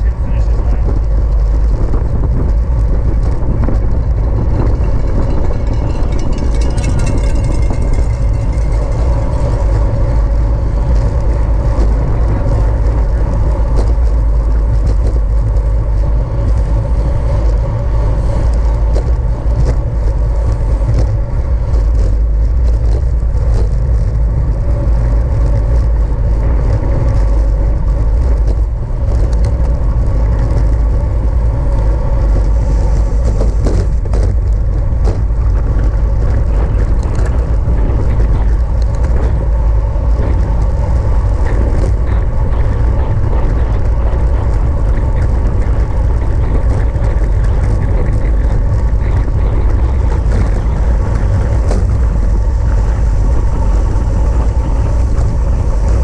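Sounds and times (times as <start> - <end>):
wind rumbling over microphone: 0.0 - 56.0.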